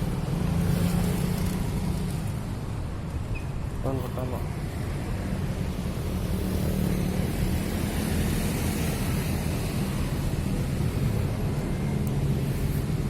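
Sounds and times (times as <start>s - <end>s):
constant rushing noise: 0.0s - 13.0s.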